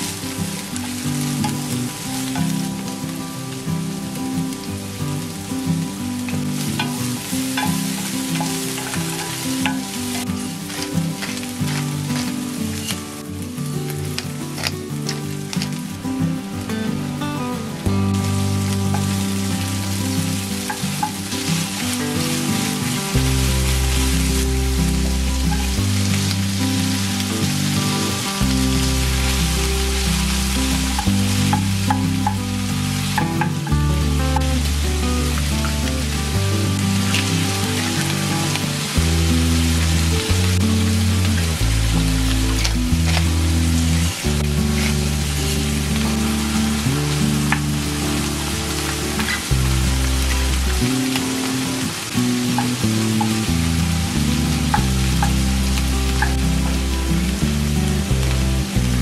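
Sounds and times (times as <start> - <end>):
background music low notes: 0.0 - 59.0
food sizzling in frying pan: 0.0 - 59.0.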